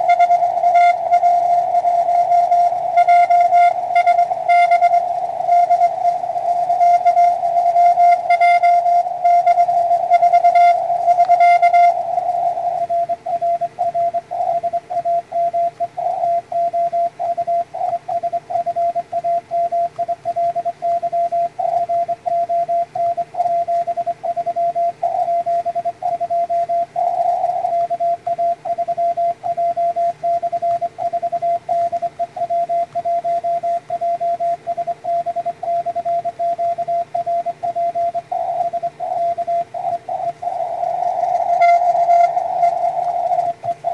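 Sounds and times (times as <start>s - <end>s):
morse code tone: 0.0s - 43.9s.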